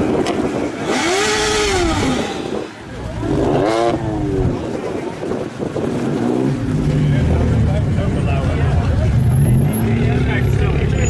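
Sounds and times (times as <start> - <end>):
exhaust rush: 0.0 - 11.0
car engine revving: 0.2 - 4.7, 5.9 - 11.0.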